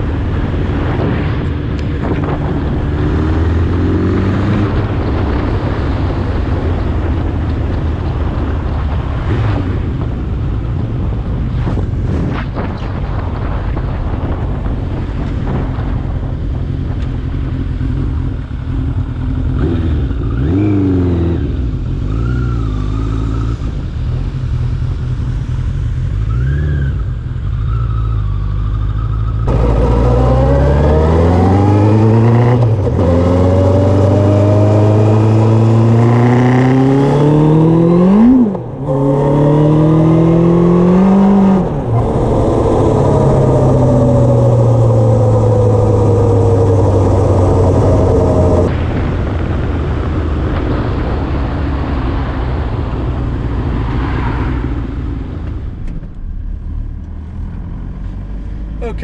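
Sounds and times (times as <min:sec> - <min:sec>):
motorcycle engine revving: 0:00.0 - 0:10.3, 0:15.0 - 0:58.9
wind rushing on camera: 0:00.0 - 0:59.0.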